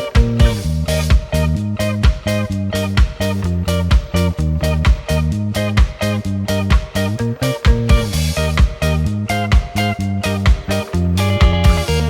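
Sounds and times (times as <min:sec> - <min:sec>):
funky guitar and bass music: 0:00.0 - 0:12.0
steady drum beat: 0:00.0 - 0:12.0.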